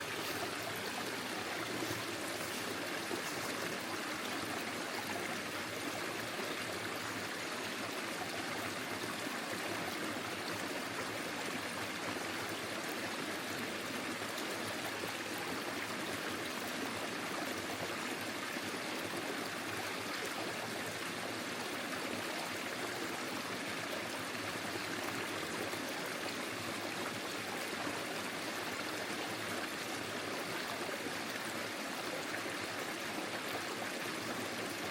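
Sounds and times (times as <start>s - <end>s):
stream flowing over stones: 0.0s - 34.9s.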